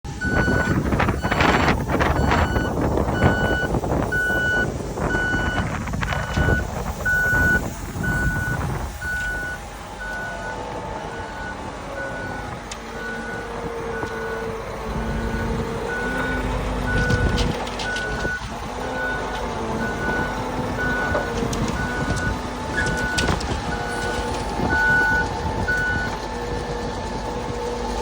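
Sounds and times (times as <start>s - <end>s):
truck reversing alarm beeping: 0.1s - 28.0s
wind buffeting microphone: 0.1s - 28.0s.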